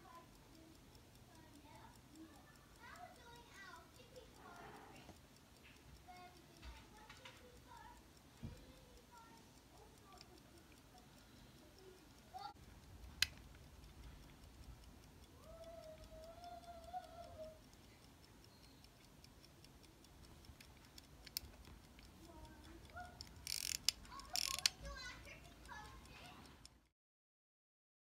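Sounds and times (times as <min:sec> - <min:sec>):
pocket watch ticking: 0:00.0 - 0:26.9
ratcheting clicks of watch winding: 0:00.0 - 0:26.9
sharp clicks: 0:00.0 - 0:26.9.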